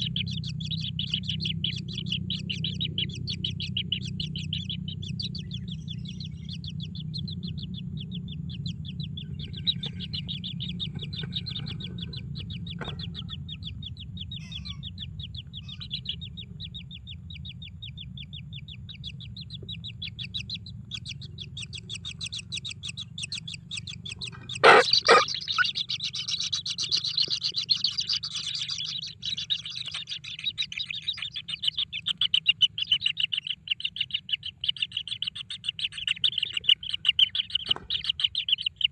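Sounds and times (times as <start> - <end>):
chicks chirping: 0.0 - 38.9
low steady hum: 0.0 - 38.9.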